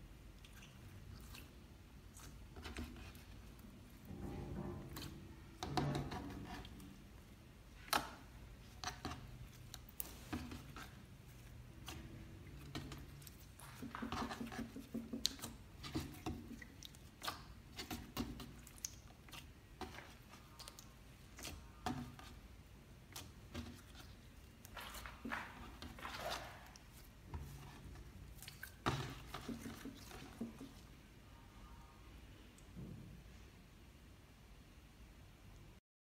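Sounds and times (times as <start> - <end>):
slime squishing: 0.0 - 31.0.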